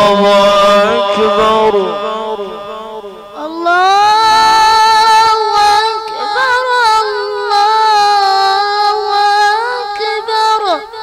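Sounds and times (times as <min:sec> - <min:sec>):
man singing call to prayer: 0:00.0 - 0:11.0.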